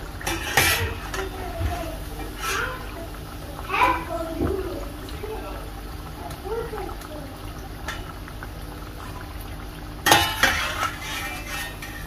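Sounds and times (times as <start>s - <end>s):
food bubbling in hot oil: 0.0s - 12.0s.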